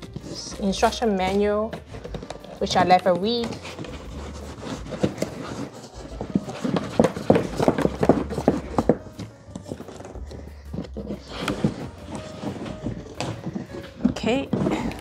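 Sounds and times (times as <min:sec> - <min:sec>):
cardboard box being handled: 0:00.0 - 0:15.0.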